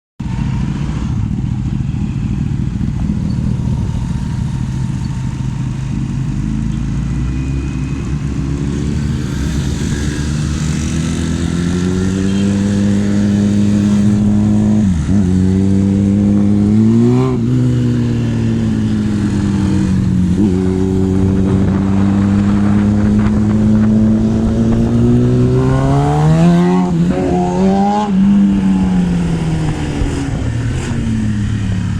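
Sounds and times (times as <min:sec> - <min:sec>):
motorcycle engine running: 0:00.2 - 0:31.9.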